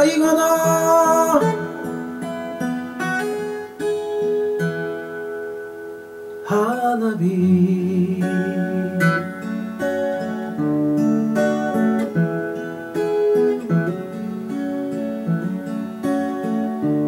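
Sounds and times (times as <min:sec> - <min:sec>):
acoustic guitar picked notes: 0:00.0 - 0:17.0.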